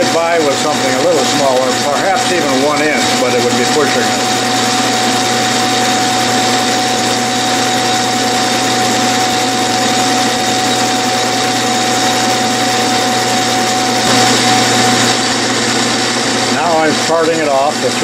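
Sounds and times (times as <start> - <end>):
metal lathe whining: 0.0 - 18.0.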